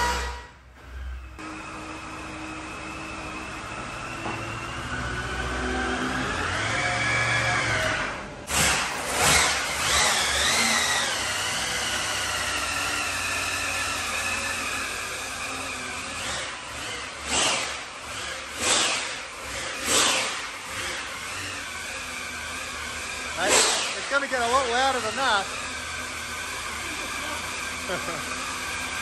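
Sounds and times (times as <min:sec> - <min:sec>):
engine running on a dyno: 0:00.0 - 0:29.0
supercharger whine: 0:00.0 - 0:29.0.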